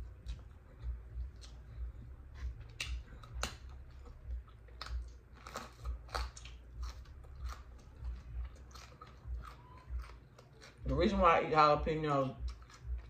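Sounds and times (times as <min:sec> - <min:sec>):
person chewing meat: 0:00.0 - 0:11.1, 0:12.3 - 0:13.0.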